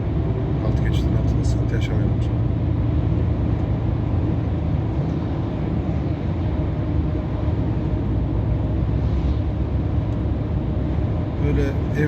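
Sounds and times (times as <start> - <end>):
road noise: 0.0 - 12.0
truck diesel engine rumble: 0.0 - 12.0.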